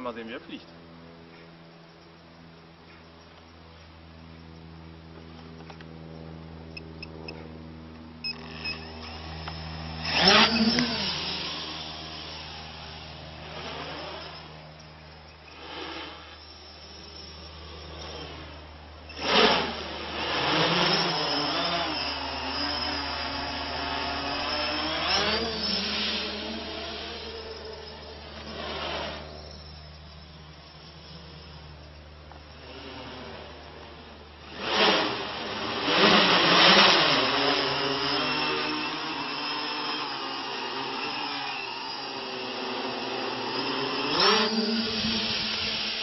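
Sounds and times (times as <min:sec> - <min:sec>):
drone motors whirring: 0:00.0 - 0:46.0.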